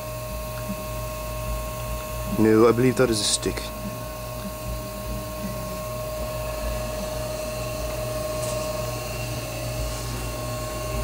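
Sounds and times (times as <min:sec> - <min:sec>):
mechanical hum with whining tone: 0:00.0 - 0:11.0.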